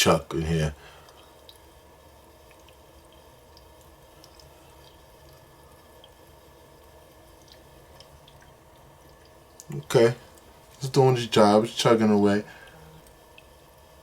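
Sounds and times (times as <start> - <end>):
humidifier humming: 0.0 - 14.0
water drips and gurgles: 0.0 - 14.0.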